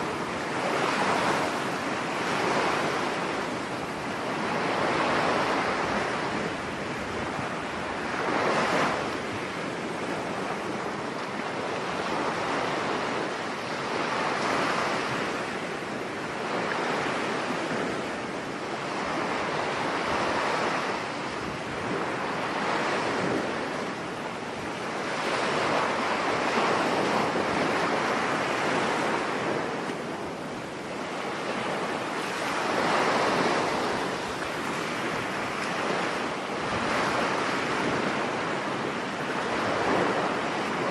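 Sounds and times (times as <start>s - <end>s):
surf breaking on beach: 0.0s - 40.9s
wind blowing: 0.0s - 40.9s.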